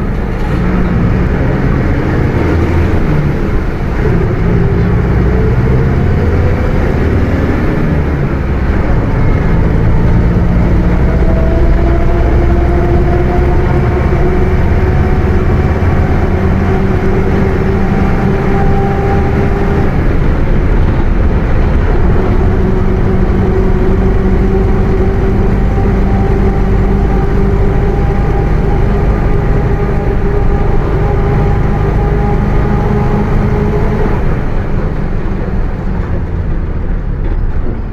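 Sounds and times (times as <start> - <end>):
differential whine: 0.0 - 37.8
bus diesel engine running: 0.0 - 37.9.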